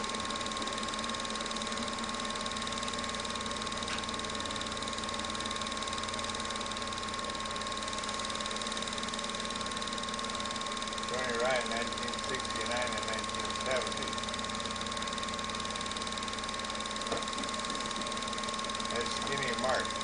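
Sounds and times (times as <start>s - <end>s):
film projector whirring: 0.0s - 20.0s.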